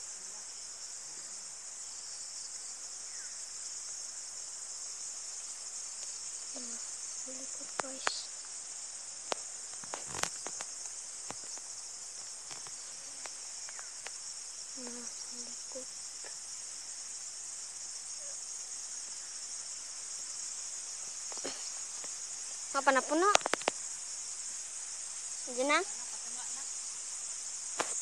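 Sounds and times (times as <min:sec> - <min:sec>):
insect chorus buzzing: 0:00.0 - 0:28.0.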